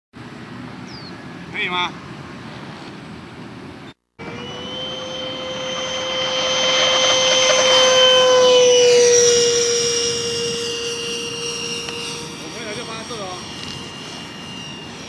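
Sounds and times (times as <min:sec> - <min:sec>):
model jet engine whine: 0:00.3 - 0:15.0.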